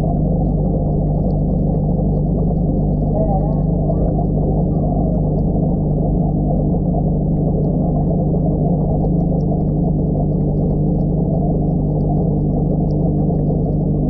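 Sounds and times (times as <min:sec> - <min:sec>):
low pump hum: 0:00.0 - 0:14.0
muffled bubbling rush: 0:00.0 - 0:14.0
small bubble ticks: 0:00.0 - 0:14.0.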